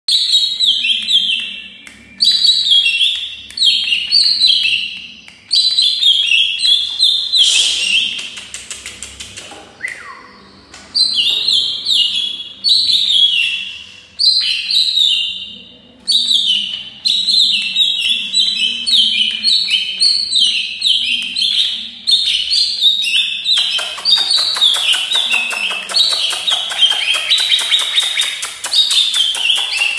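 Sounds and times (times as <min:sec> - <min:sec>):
bird singing chattering notes: 0:00.2 - 0:29.9.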